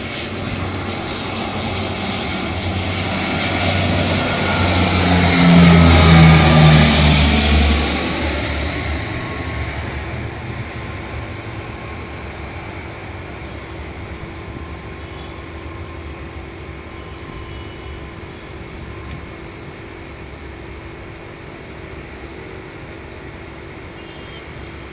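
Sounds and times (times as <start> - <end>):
turboprop engine drone: 0.0 - 24.9.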